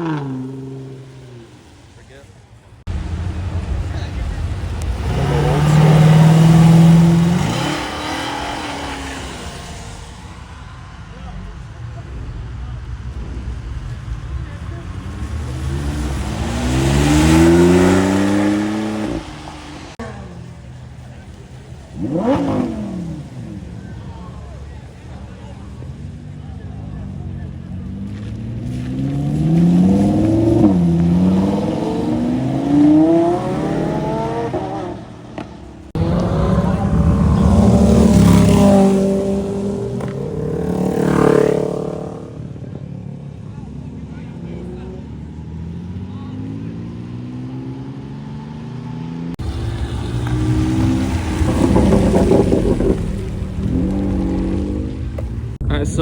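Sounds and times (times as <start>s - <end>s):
car accelerating past: 2.8s - 43.4s, 44.0s - 55.7s.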